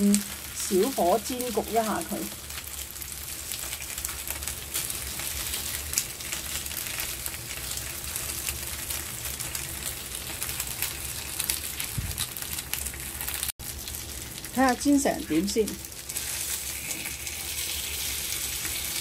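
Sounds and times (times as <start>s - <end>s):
fish sizzling in oil: 0.0s - 19.0s.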